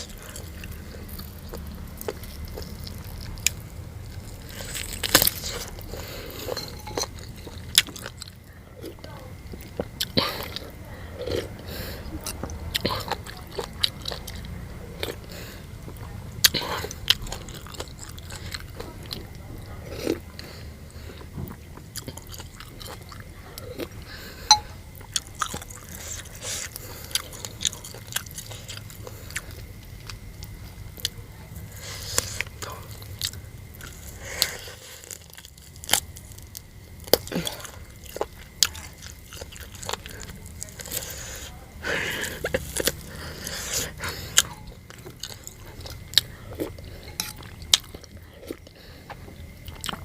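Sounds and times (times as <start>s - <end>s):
person chewing and biting: 0.0s - 20.5s, 21.1s - 50.0s.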